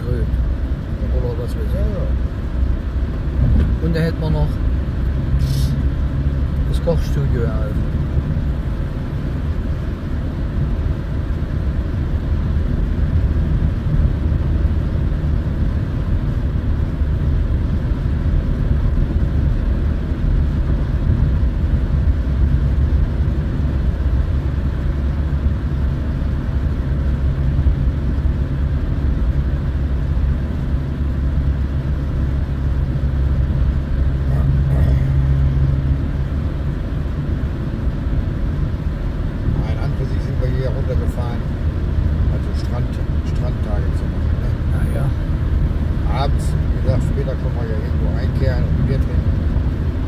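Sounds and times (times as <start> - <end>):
car cabin engine and tyre drone: 0.0 - 50.0.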